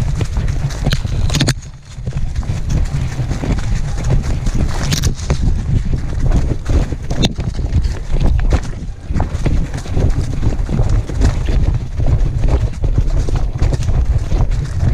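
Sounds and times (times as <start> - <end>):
dog running through dry leaves: 0.0 - 14.9.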